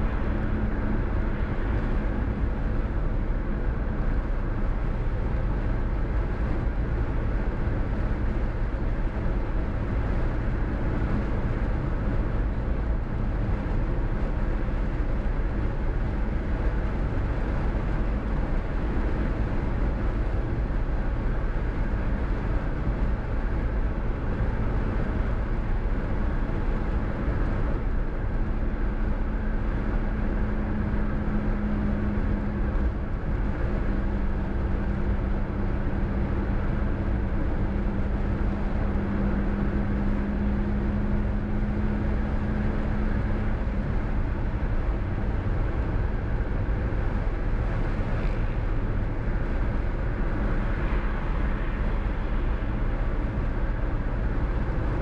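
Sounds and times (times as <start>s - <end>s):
car engine and tyre hum: 0.0s - 55.0s
low steady drone: 0.0s - 55.0s.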